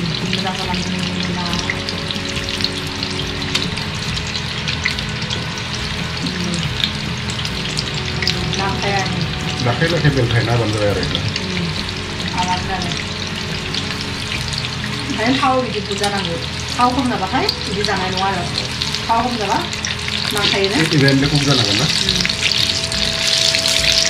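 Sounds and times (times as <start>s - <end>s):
chicken deep-frying in oil: 0.0s - 24.0s
spatula turning food in oil: 0.0s - 24.0s.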